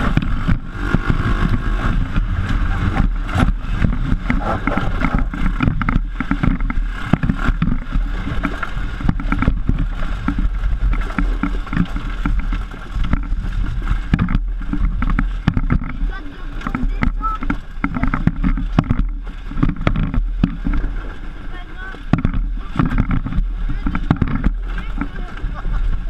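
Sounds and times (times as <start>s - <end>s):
buggy engine running: 0.0s - 26.0s
chassis knocks and rattles: 0.0s - 26.0s.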